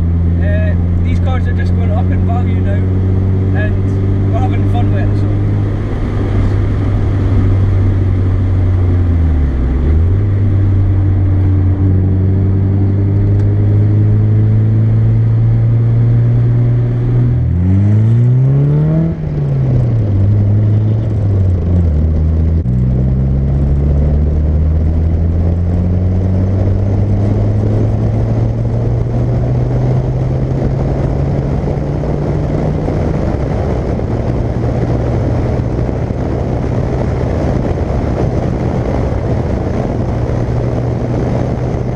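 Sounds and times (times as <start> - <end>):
car engine revving while driving: 0.0 - 41.9
road noise: 0.0 - 41.9.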